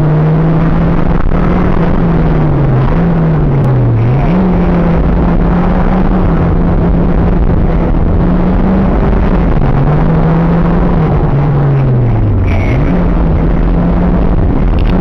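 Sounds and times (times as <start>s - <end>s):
car engine revving: 0.0s - 15.0s
road and wind noise: 0.0s - 15.0s.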